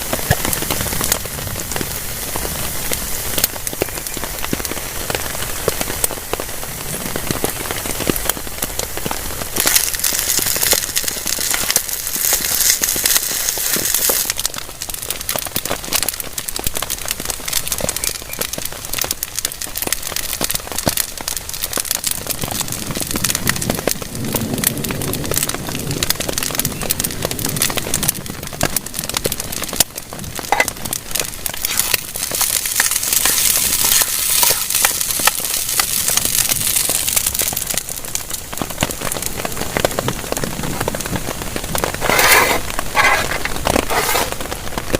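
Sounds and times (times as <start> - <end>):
heavy rain on a tarp: 0.0 - 44.9.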